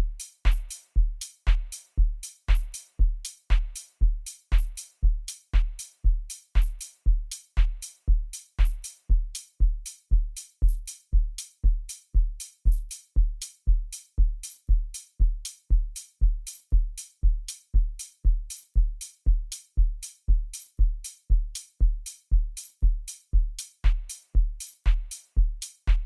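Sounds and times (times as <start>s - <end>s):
electronic kick drum beat: 0.0s - 26.0s.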